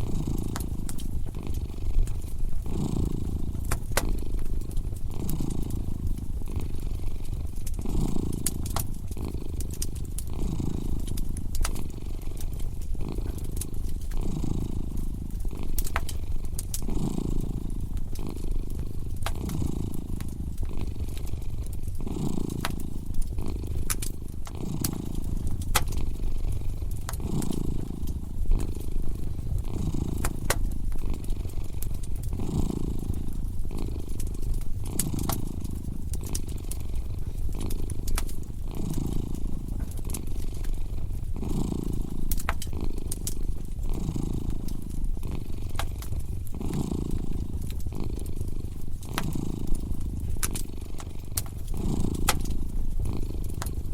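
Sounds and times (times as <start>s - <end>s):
cat purring: 0.0s - 53.9s
wood fire crackling: 0.0s - 53.9s.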